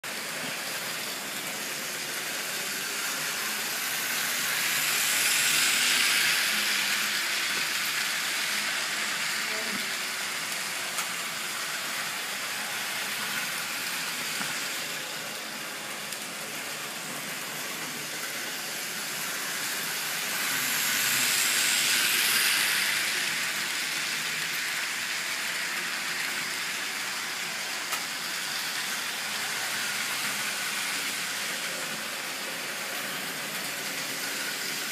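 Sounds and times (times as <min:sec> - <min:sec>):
electric motors whirring: 0:00.3 - 0:34.9.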